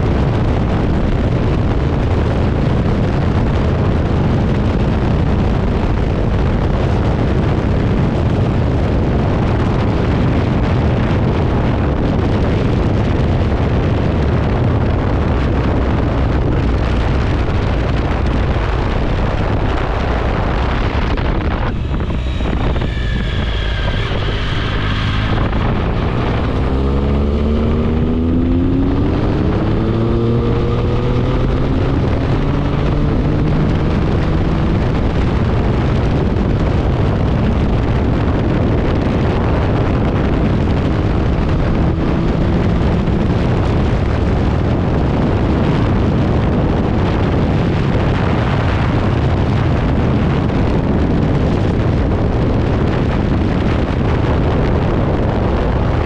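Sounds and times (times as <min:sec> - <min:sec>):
motorcycle engine accelerating: 0:00.0 - 0:56.0
wind rushing on microphone: 0:00.0 - 0:56.0.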